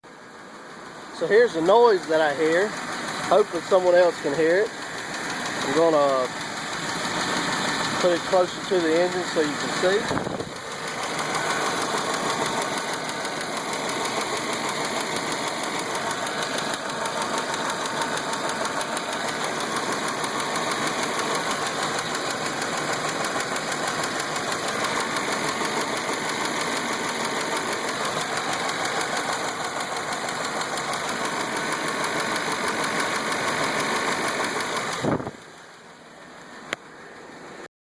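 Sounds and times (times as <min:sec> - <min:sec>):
car engine idling: 0:00.1 - 0:37.7
fast engine tapping tick: 0:01.2 - 0:35.8.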